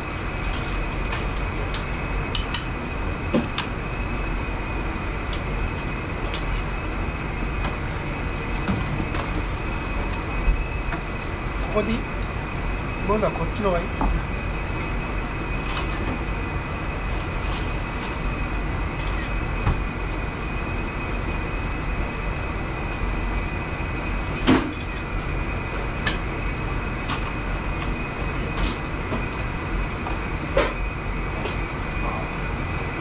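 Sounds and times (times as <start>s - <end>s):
kitchen mechanical hum: 0.0s - 33.0s.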